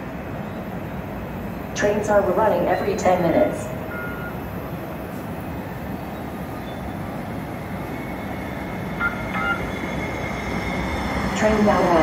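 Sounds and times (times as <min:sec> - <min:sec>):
light rail train rumbling: 0:00.0 - 0:12.0.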